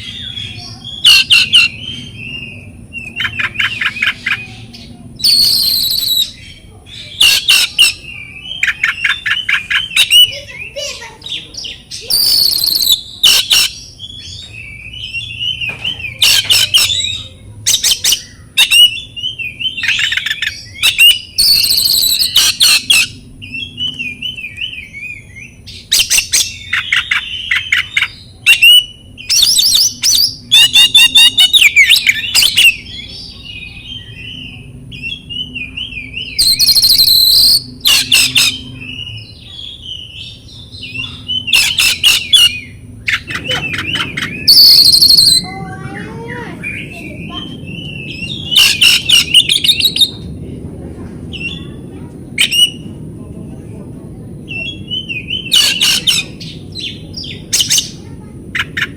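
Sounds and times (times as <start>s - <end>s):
bird singing whistles and warbles: 0.0s - 50.3s, 51.3s - 53.0s, 54.4s - 58.9s.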